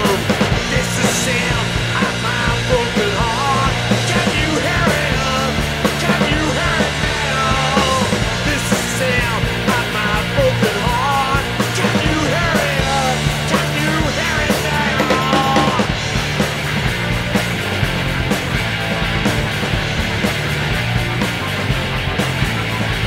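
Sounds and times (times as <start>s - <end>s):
rock music: 0.0s - 23.0s.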